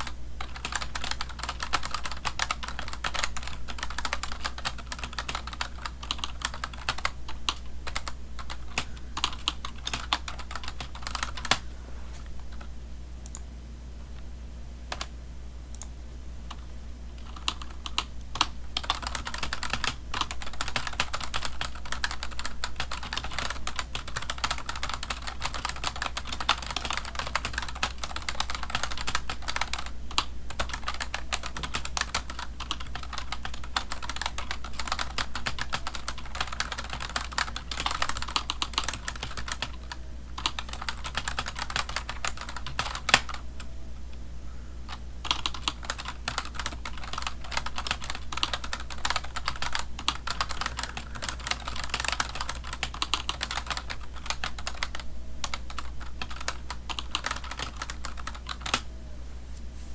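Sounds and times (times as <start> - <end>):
typing on computer keyboard: 0.0 - 11.6, 17.2 - 43.4, 44.9 - 58.8
low steady hum: 0.0 - 59.9.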